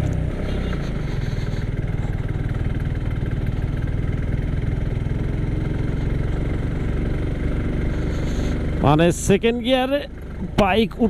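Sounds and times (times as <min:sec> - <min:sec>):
motorcycle engine labouring uphill: 0:00.0 - 0:11.0.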